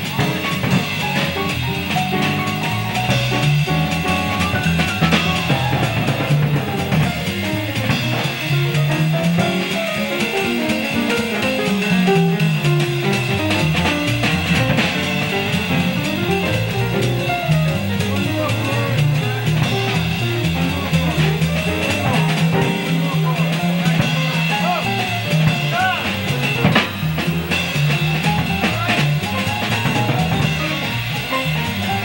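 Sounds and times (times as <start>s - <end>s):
bass line: 0.0s - 32.0s
drums on cymbals: 0.0s - 32.0s
jazz piano solo: 0.0s - 32.0s.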